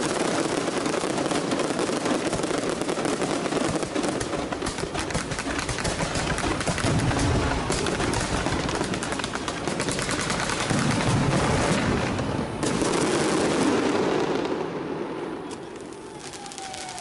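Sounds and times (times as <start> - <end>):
firecrackers crackling and popping: 0.0 - 17.0.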